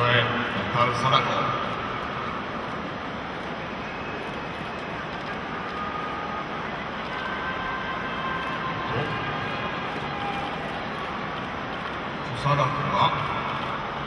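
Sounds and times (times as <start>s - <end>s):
stadium crowd murmur: 0.0s - 14.0s.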